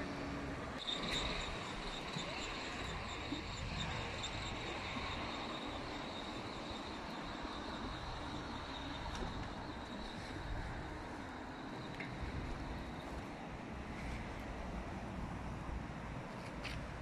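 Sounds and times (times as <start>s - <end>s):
high-pitched whine: 0.0s - 14.2s
distant road traffic: 0.0s - 17.0s.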